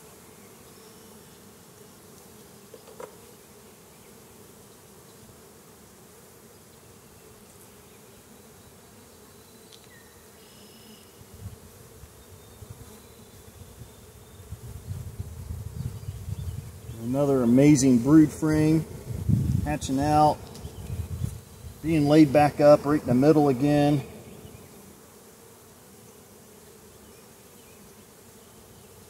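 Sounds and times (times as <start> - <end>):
honeybees swarming hum: 0.0 - 29.0.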